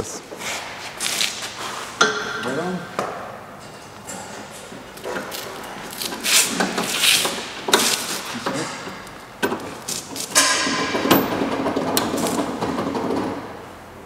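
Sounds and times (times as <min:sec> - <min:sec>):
metal couplers knocking and clicking: 0:02.0 - 0:13.4.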